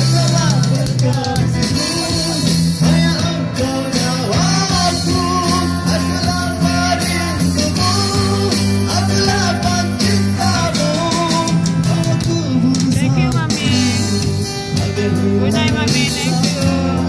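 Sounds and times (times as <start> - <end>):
electric guitar: 0.0 - 17.0
keyboard: 0.0 - 17.0
person singing: 0.0 - 17.0.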